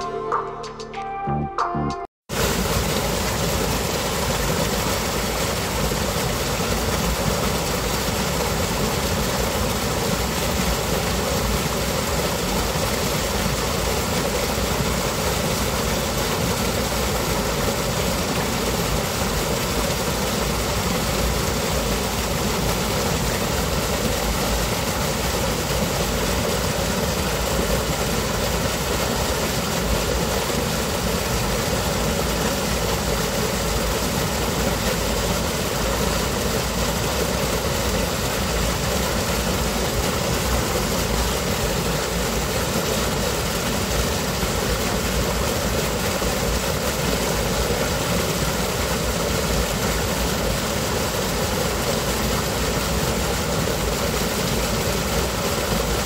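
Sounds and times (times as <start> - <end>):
water rushing over a weir: 2.3 - 56.0.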